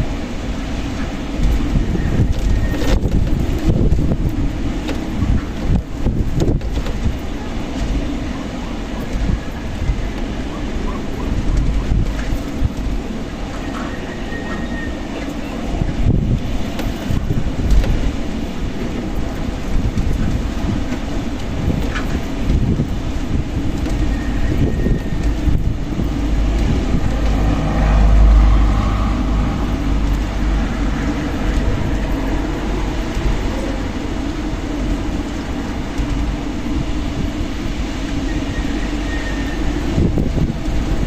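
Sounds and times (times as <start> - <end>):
strong wind gusting: 0.0 - 41.0
wind buffeting microphone: 0.0 - 41.0.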